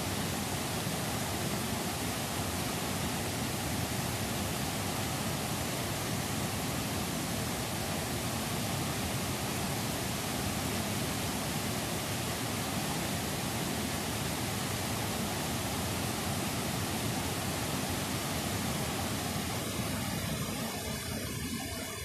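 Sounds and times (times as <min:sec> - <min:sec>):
water rushing down a cascade: 0:00.0 - 0:22.0.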